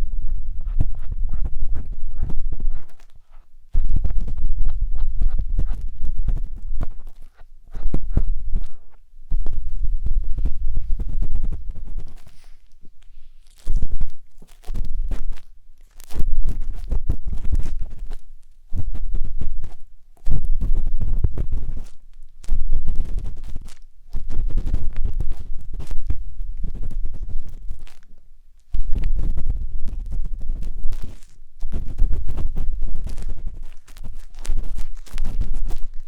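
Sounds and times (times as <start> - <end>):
matchstick scraping in microphone ear: 0.0 - 36.0.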